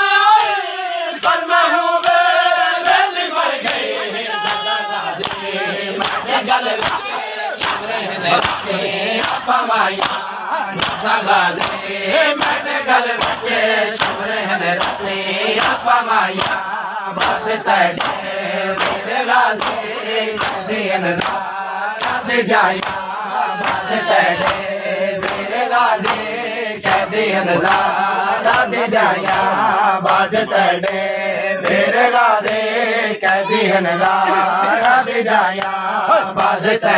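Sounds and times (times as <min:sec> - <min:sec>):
men chanting in unison: 0:00.0 - 0:36.9
hands slapping chests: 0:02.8 - 0:32.6.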